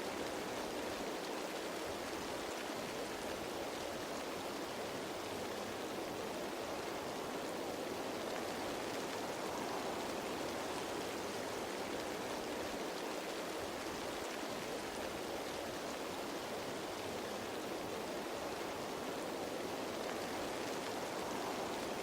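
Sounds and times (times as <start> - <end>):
rain pattering on leaves: 0.0 - 22.0.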